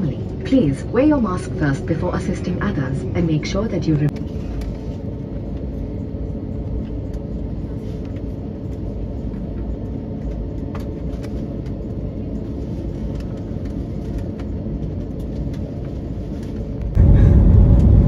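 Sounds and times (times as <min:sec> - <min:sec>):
faint hum: 0:00.0 - 0:18.0
jet engines and wheels rumbling: 0:00.0 - 0:18.0.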